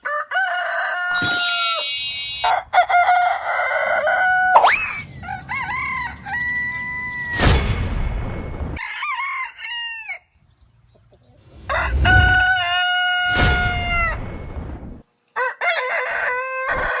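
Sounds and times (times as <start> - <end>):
roosters crowing: 0.0 - 7.9, 8.8 - 10.4, 11.4 - 14.3, 15.4 - 17.0.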